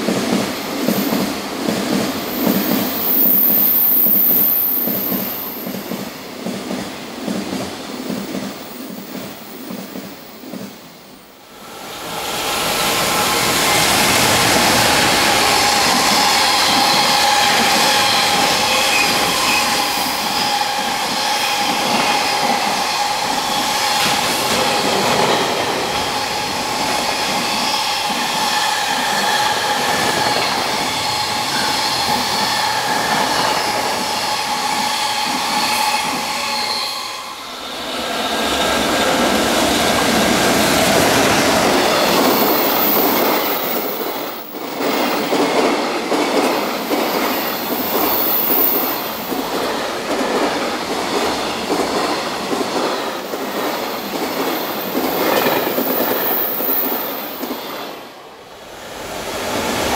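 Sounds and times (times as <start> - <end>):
train wheels whining: 0.0 - 59.9.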